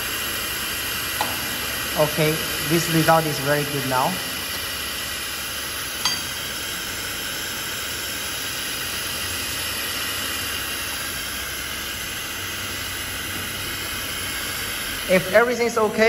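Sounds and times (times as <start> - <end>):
welding torch hissing: 0.0 - 16.0.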